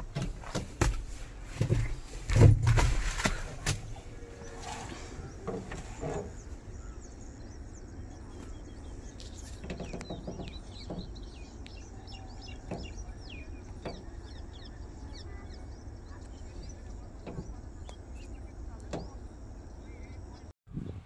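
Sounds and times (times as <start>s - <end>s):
small birds chirping: 0.0s - 20.5s
steady low rumble: 0.0s - 21.0s.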